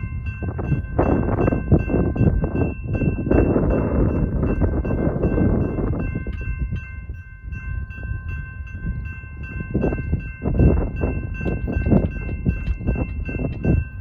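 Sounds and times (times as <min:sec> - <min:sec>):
railroad crossing bells ringing: 0:00.0 - 0:14.0.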